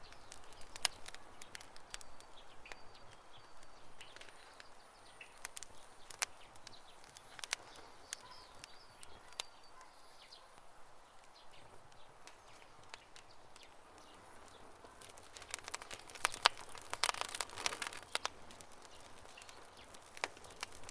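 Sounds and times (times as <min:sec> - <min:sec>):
campfire crackling: 0:00.0 - 0:20.9.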